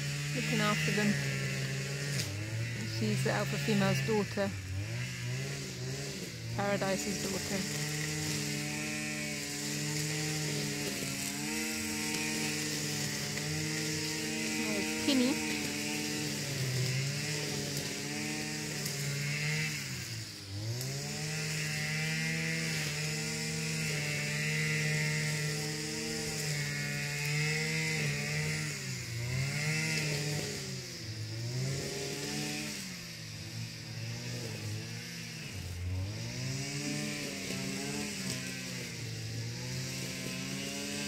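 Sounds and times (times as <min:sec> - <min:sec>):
string trimmer engine running: 0:00.0 - 0:41.0.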